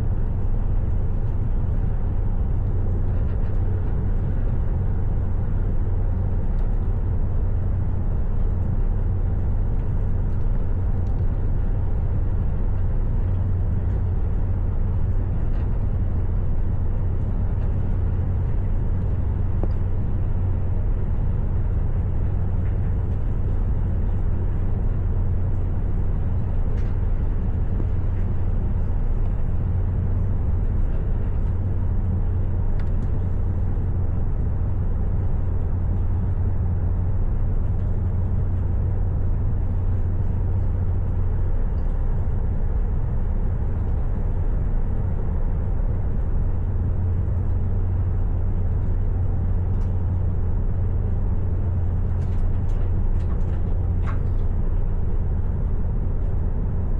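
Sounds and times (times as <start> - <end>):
vehicle rumbling in motion: 0.0 - 56.9.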